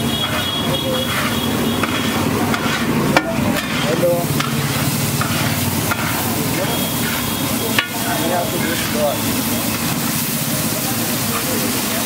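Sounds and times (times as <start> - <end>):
spatula scraping metal griddle: 0.0 - 10.2
hot oil sizzling: 0.0 - 12.0.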